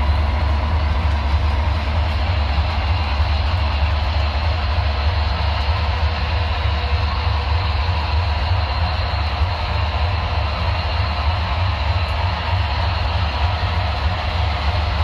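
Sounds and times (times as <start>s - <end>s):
model train humming and whirring: 0.0s - 15.0s.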